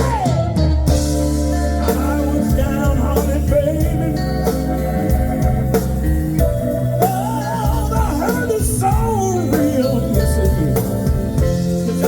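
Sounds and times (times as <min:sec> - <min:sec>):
bass: 0:00.0 - 0:12.0
drums: 0:00.0 - 0:12.0
live blues band: 0:00.0 - 0:12.0.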